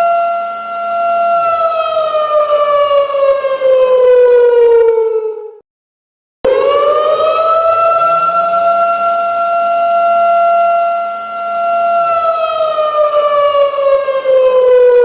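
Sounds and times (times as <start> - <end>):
siren wailing: 0.0 - 5.6, 6.4 - 15.0.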